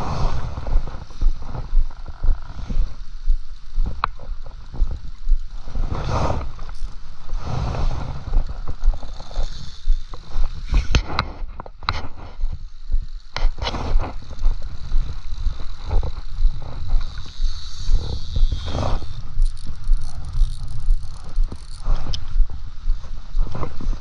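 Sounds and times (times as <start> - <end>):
wind rumble: 0.0 - 24.0.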